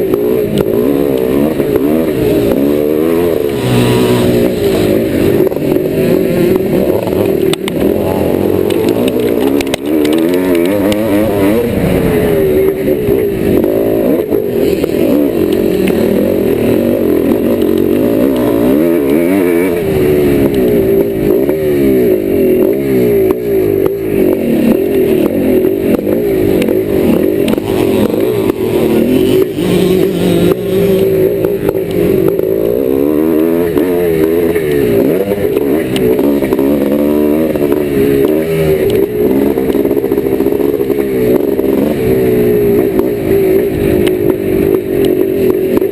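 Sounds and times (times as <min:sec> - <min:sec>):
motocross engine revving: 0:00.0 - 0:45.9.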